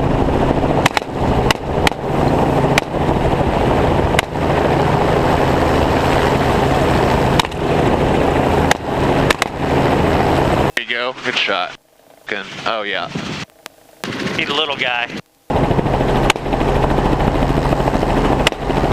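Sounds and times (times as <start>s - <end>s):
helicopter engine and rotor: 0.0s - 18.9s.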